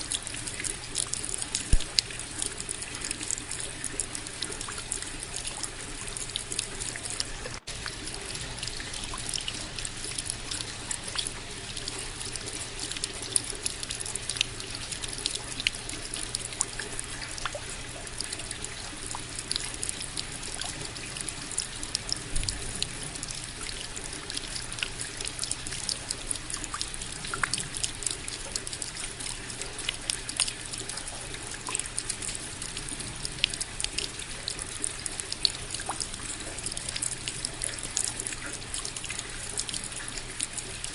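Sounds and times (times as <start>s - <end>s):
raindrops ticking close by: 0.0s - 40.9s
steady rain falling: 0.0s - 40.9s.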